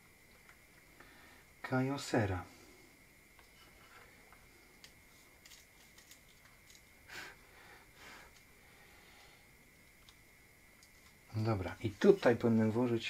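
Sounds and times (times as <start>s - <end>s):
soft noisy swells: 0.0s - 13.0s.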